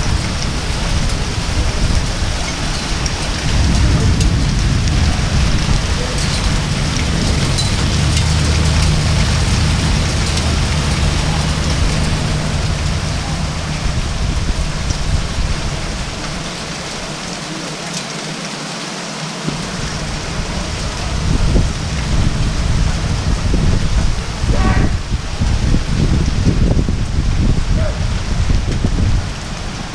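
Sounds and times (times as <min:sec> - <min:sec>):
low rumble: 0:00.0 - 0:17.3, 0:19.5 - 0:29.9
heavy rain pouring: 0:00.0 - 0:29.9.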